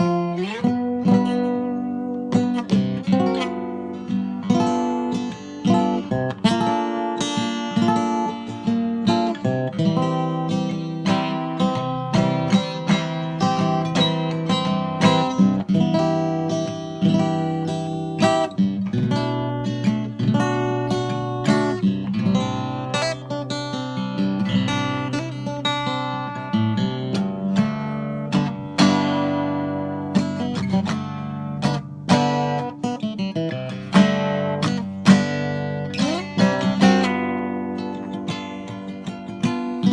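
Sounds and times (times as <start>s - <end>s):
plucked string instrument tune: 0.0s - 39.9s.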